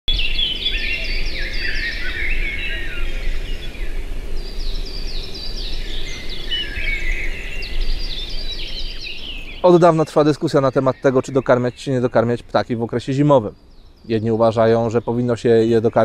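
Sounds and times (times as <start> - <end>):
songbirds chirping: 0.1 - 16.0.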